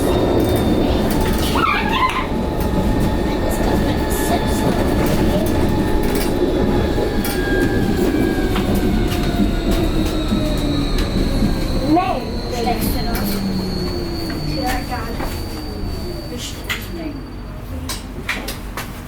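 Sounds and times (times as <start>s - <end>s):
thin whines: 0.0s - 17.6s
wavering squeal: 0.0s - 17.8s
tram rumbling along track: 0.0s - 19.0s.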